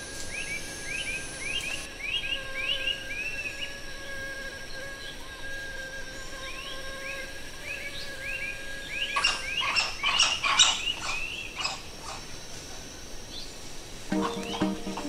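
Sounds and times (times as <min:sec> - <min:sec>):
high forest background hum: 0:00.0 - 0:15.0.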